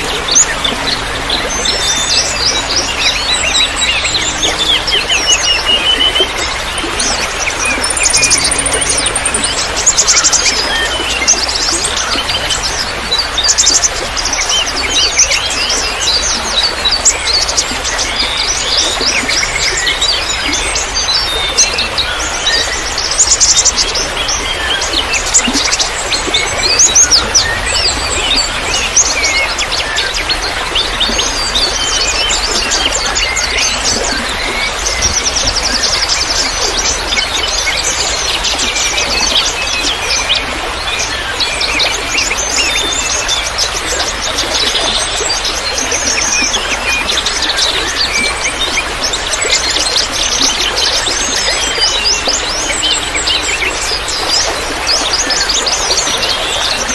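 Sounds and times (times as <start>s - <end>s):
songbirds chirping: 0.0s - 56.9s
trickle of running water: 0.0s - 56.9s.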